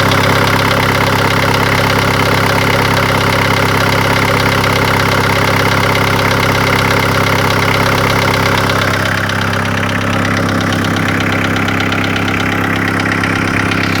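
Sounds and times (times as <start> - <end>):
diesel engine idling with knock: 0.0 - 14.0.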